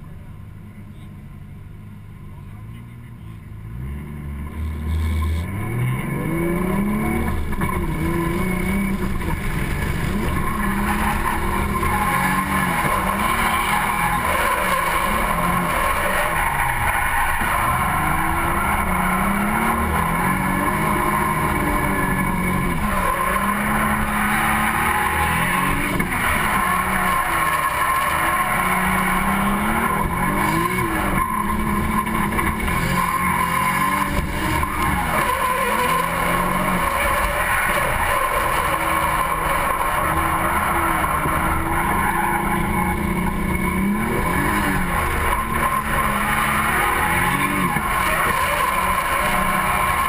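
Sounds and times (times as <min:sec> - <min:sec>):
car engine revving: 0:02.7 - 0:50.0
tyres screeching: 0:04.8 - 0:50.0.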